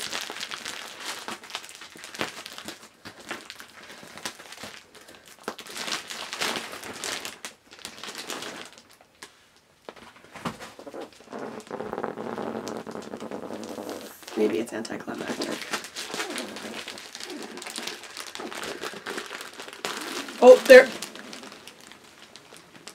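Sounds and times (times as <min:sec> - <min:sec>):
plastic wrapping crinkling: 0:00.0 - 0:22.9.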